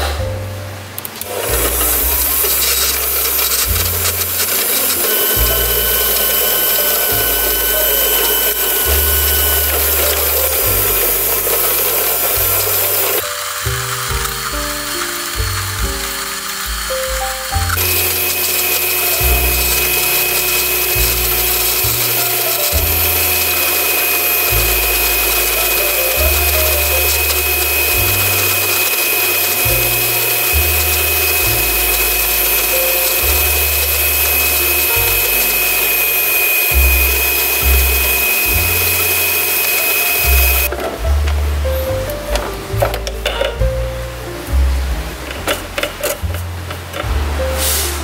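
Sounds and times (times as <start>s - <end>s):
stand mixer running: 1.2s - 40.7s.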